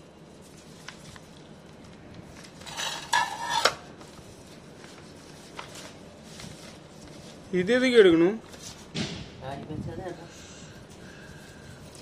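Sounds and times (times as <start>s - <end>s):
aluminium foil crinkling: 0.0s - 8.9s, 10.7s - 12.0s.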